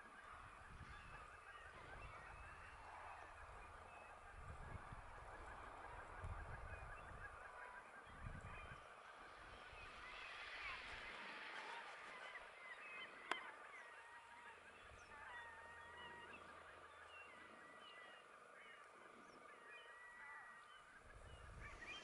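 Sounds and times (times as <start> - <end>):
faint birds calling: 0.0 - 22.0.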